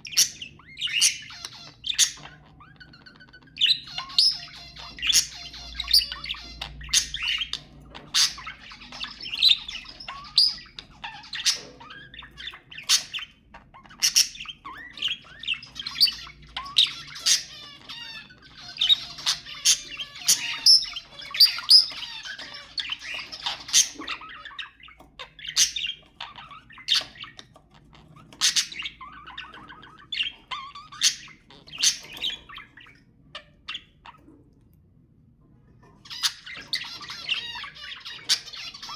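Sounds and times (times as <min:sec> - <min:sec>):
budgerigars chattering and warbling: 0:00.0 - 0:34.5, 0:35.6 - 0:38.9.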